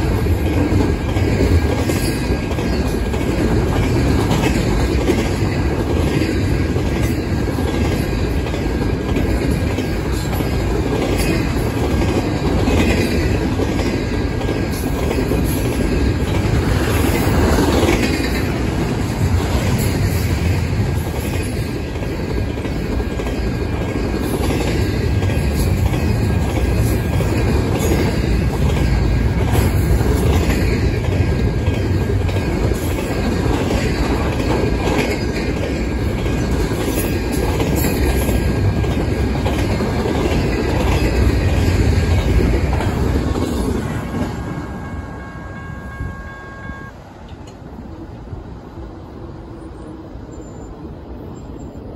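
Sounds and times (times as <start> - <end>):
wheels clattering over rail joints: 0.0 - 44.6
freight train rumbling past: 0.0 - 51.9.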